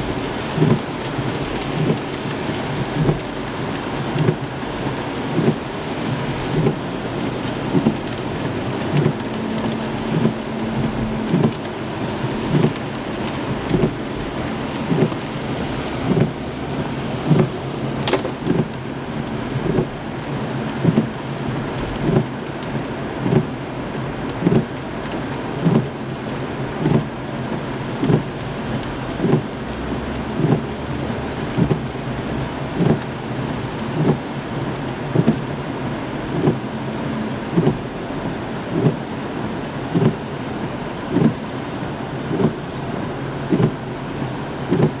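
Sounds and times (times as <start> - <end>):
windshield wipers thumping: 0.0 - 26.1, 26.7 - 29.7, 30.3 - 40.3, 41.1 - 41.5, 42.2 - 43.8, 44.6 - 45.0
rain hissing on car: 0.0 - 45.0
tyres on wet road: 0.0 - 45.0.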